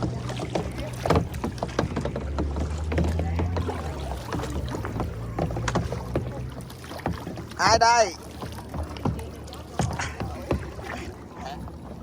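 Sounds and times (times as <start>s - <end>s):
kayak paddles splashing in water: 0.0s - 12.0s
paddle knocks: 0.0s - 12.0s.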